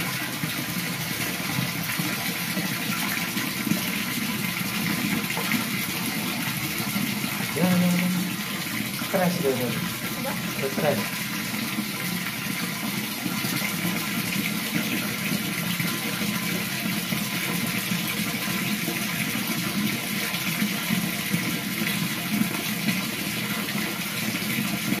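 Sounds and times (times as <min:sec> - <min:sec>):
water running into plastic tub: 0:00.0 - 0:25.0.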